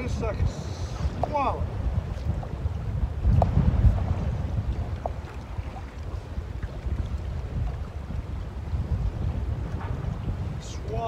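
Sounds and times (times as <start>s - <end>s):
water lapping against boat: 0.0s - 11.0s
wind buffeting microphone: 0.0s - 11.0s.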